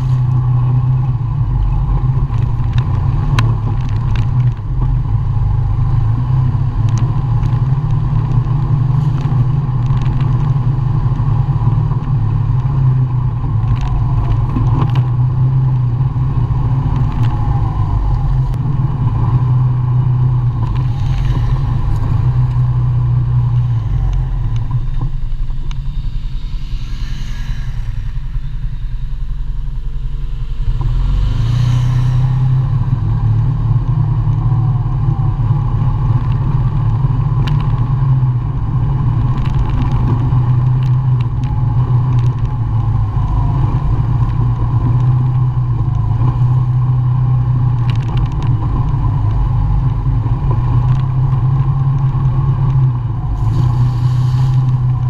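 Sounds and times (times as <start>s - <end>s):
atv engine running: 0.0s - 26.5s, 28.3s - 55.0s.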